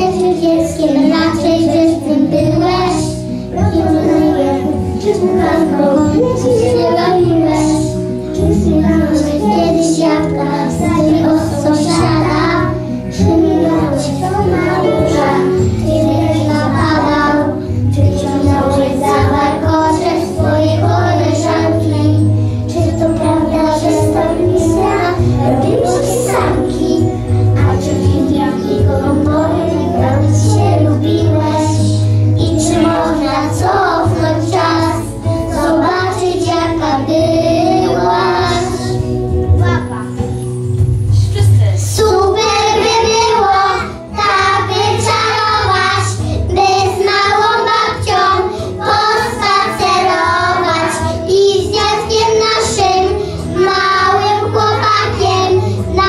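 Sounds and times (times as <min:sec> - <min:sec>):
children singing together: 0:00.0 - 0:39.1, 0:41.9 - 0:56.0
musical accompaniment: 0:00.0 - 0:56.0.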